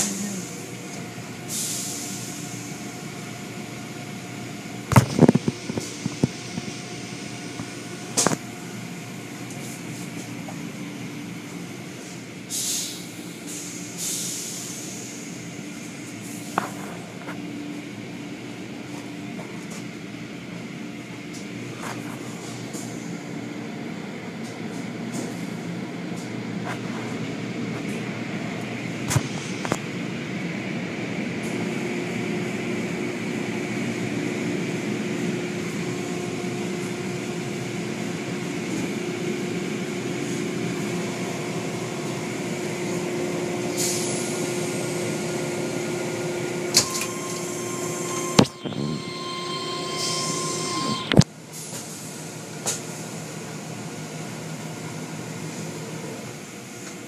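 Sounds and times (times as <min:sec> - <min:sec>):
car wash machinery hum: 0:00.0 - 0:57.0.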